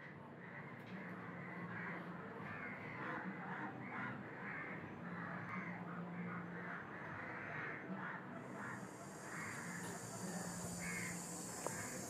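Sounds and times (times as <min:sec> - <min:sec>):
crows cawing: 0:01.4 - 0:12.0.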